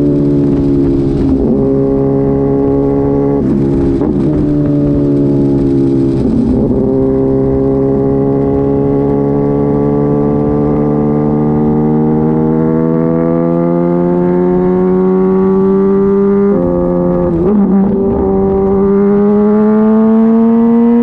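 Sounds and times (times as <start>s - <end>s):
motorcycle engine revving up: 0.0s - 21.0s.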